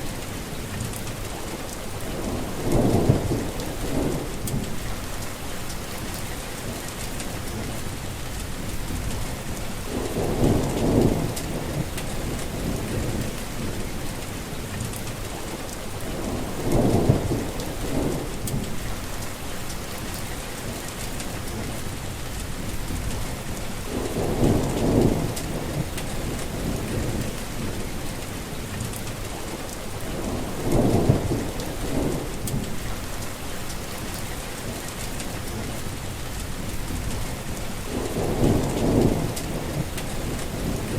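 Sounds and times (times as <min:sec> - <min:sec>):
heavy rain falling: 0:00.0 - 0:40.9
low rumbles of thunder: 0:00.0 - 0:40.9.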